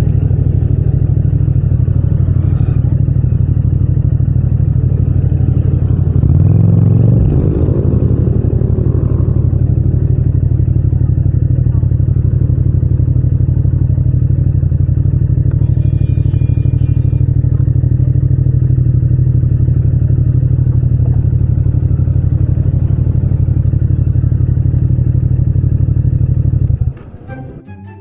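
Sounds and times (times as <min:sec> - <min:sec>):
motorcycle engine running steadily: 0:00.0 - 0:27.3.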